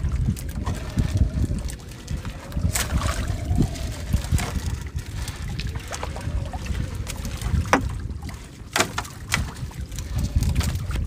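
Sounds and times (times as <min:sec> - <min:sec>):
water sounds: 0:00.0 - 0:11.0
wind rumbling on microphone: 0:00.0 - 0:11.0.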